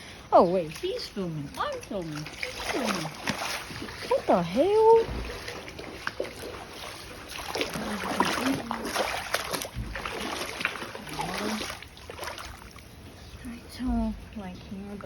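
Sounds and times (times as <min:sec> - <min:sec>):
wading through shallow water: 0:00.0 - 0:15.0.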